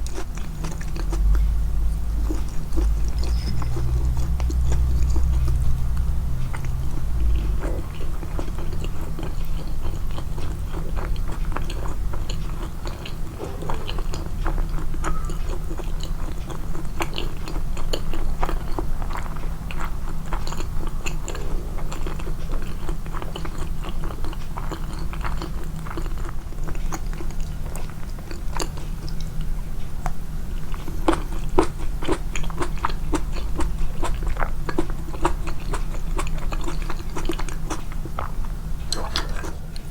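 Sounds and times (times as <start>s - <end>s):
chewing and biting food: 0.0s - 39.9s
steady low hum: 0.0s - 39.9s.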